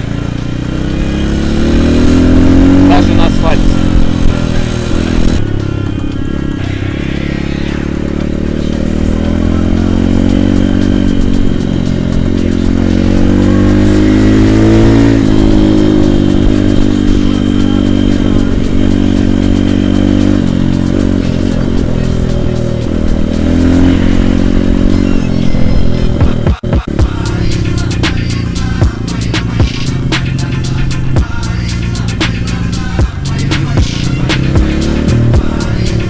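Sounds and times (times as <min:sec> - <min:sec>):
small motorbike engine: 0:00.0 - 0:36.0.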